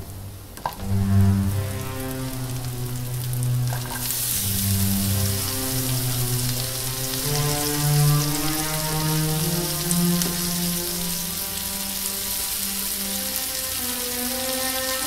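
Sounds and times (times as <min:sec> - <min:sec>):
slow music with low notes: 0:00.0 - 0:15.0
vegetables sizzling in frying pan: 0:01.4 - 0:15.0.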